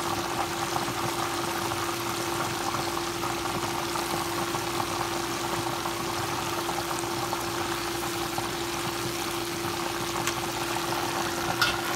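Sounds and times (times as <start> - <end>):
chicken deep-frying in oil: 0.0 - 11.9.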